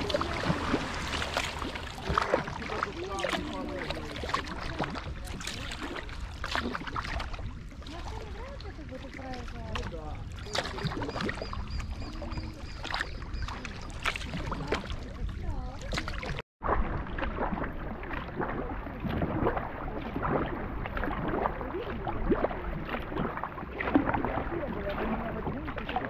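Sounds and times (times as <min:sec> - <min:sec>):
paddle blades splashing water: 0:00.0 - 0:26.0
water sloshing along hull: 0:00.0 - 0:26.0.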